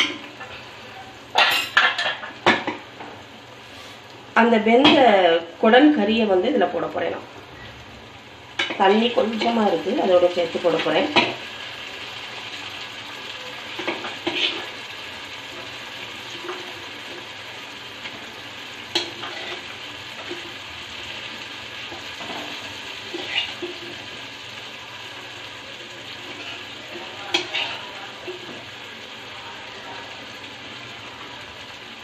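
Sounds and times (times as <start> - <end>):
spices sizzling in oil: 0.0 - 32.0.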